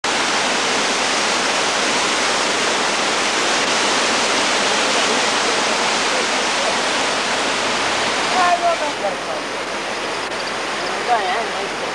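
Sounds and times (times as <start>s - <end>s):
heavy rain rushing: 0.0s - 11.9s.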